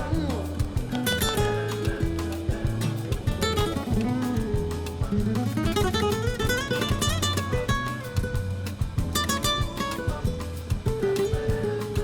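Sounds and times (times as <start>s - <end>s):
acoustic guitar melody: 0.0s - 12.0s
steady bass line: 0.0s - 12.0s.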